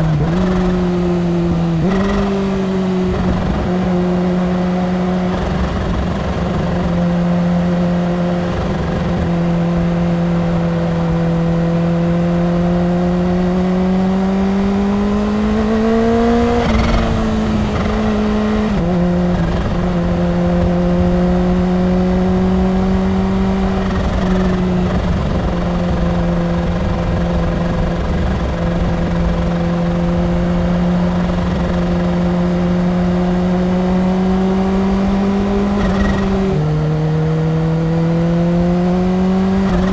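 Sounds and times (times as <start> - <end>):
motorcycle engine at speed: 0.0 - 39.9
road rumble: 0.0 - 39.9
wind: 0.0 - 39.9.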